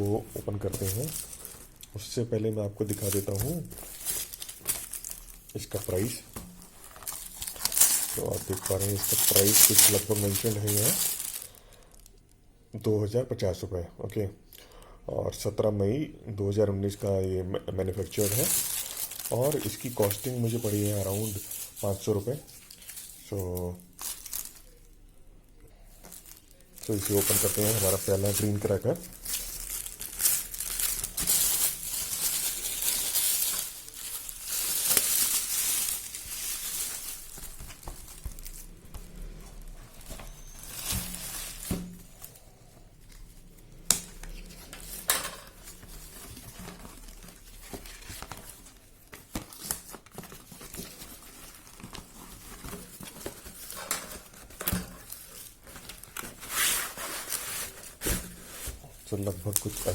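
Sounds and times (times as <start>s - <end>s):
wrapping crinkling: 0.0s - 12.4s, 17.9s - 25.0s, 25.7s - 59.9s.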